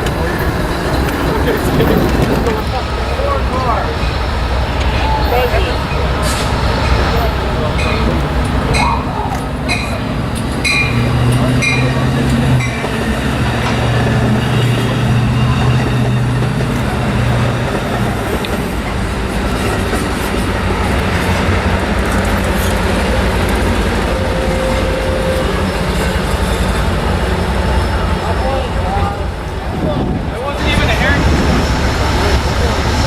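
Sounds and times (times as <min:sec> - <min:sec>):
locomotive engine drone: 0:00.0 - 0:33.0
train wheel and rail noise: 0:00.0 - 0:33.0.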